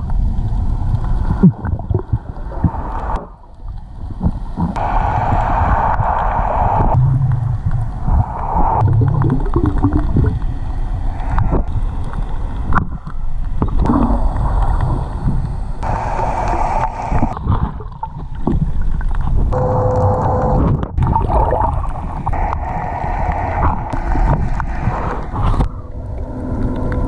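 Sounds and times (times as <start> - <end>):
water gurgling: 0.0 - 27.0.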